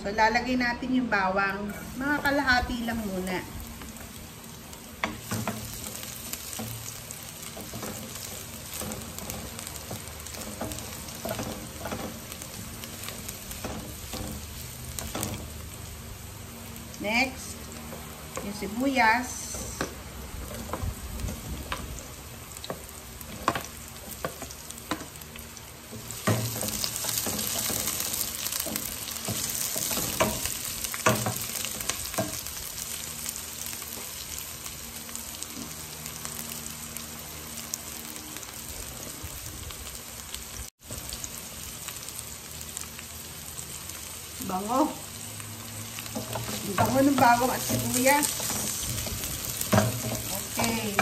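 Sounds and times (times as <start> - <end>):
onions and garlic sizzling in oil: 0.0 - 51.0.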